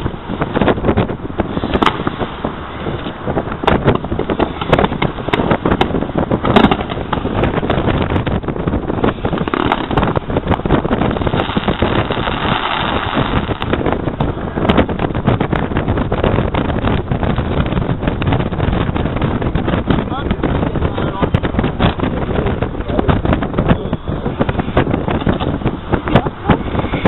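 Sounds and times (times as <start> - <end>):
fireworks bangs and crackles: 0.0 - 27.0
wind rumbling on microphone: 0.0 - 27.0.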